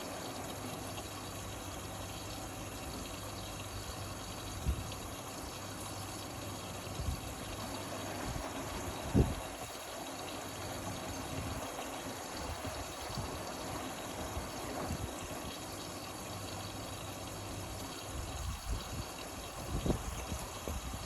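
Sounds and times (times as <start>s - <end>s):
washing machine running: 0.0s - 21.0s
water rushing inside machine: 0.0s - 21.0s.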